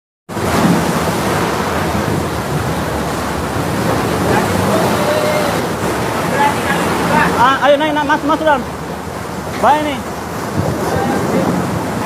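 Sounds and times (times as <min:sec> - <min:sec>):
rough sea rushing: 0:00.3 - 0:12.0
wind: 0:00.3 - 0:12.0.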